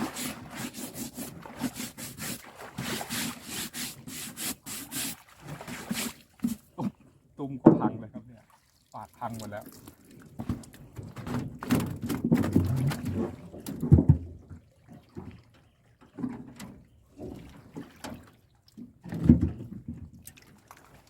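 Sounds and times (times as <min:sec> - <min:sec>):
water splashing and dripping: 0:00.0 - 0:06.8, 0:08.4 - 0:21.0.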